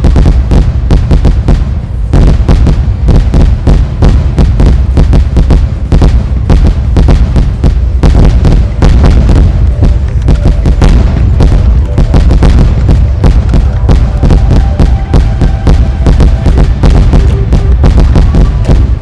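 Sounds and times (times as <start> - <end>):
fireworks banging: 0.0 - 19.0
low rumble: 0.0 - 19.0.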